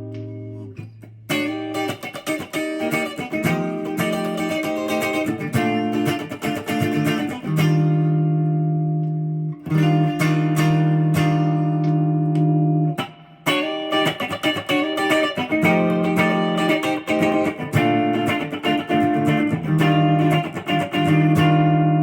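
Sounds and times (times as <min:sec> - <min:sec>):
electric guitar through amplifier: 0:00.0 - 0:22.0.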